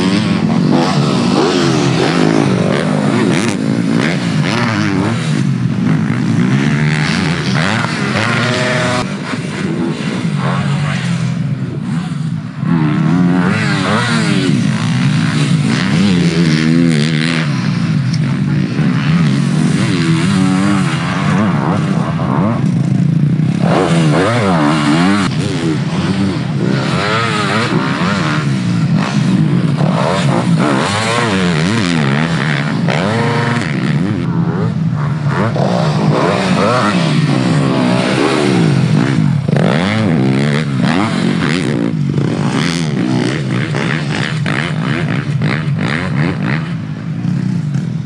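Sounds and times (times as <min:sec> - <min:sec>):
motocross engines revving: 0:00.0 - 0:48.0.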